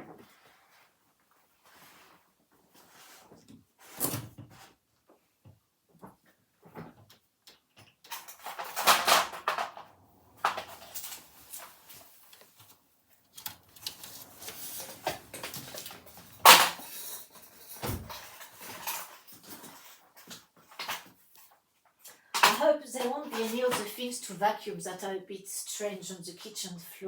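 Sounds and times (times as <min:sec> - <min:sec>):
rustling and clattering objects: 0:00.0 - 0:24.2.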